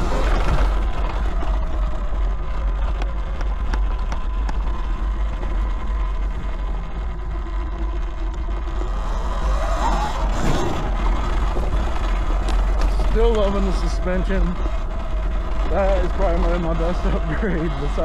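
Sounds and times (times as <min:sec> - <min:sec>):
electric motor whine: 0:00.0 - 0:18.0
tyre and trail noise: 0:00.0 - 0:18.0
wind rumble on microphone: 0:00.0 - 0:18.0.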